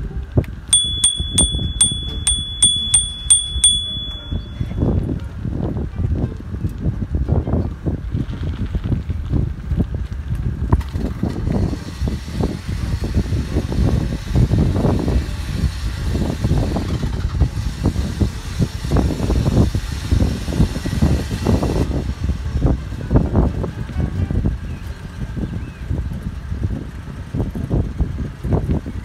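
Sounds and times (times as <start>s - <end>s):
vehicles rumbling slowly: 0.0s - 29.0s.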